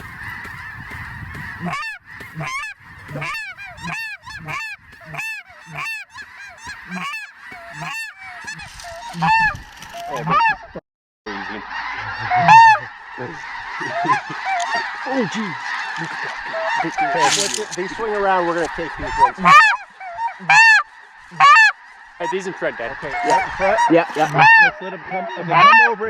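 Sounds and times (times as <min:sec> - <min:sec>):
close single goose calls: 0:00.0 - 0:26.0
geese honking chorus: 0:00.0 - 0:26.0.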